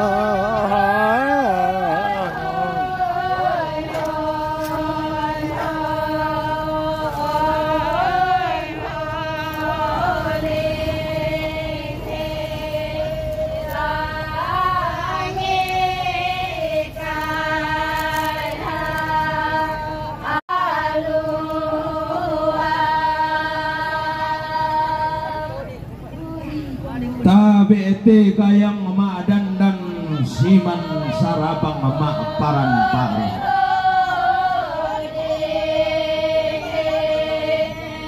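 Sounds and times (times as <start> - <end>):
women chanting long notes: 0.0 - 27.2, 29.9 - 38.0.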